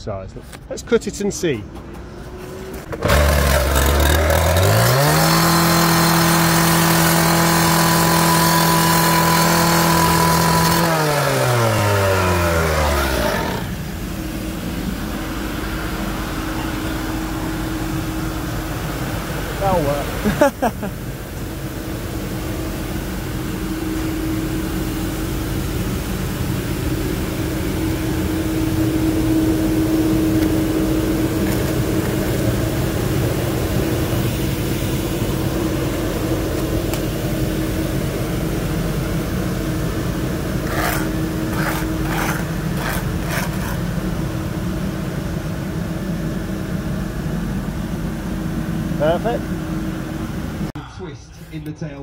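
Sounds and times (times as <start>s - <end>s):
engine humming: 0.0s - 52.0s.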